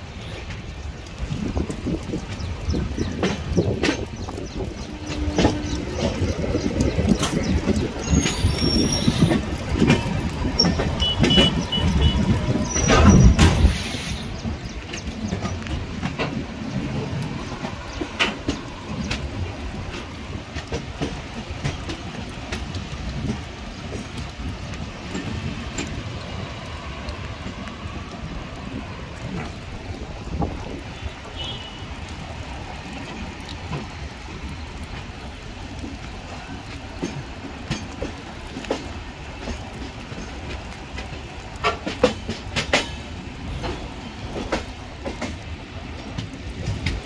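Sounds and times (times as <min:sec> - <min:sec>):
train wheels clicking over rail joints: 0:00.0 - 0:47.0.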